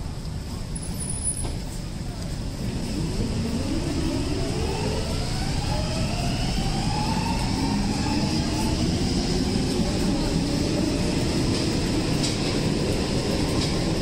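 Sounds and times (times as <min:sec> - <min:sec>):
electric train motors whining: 0:02.4 - 0:14.0.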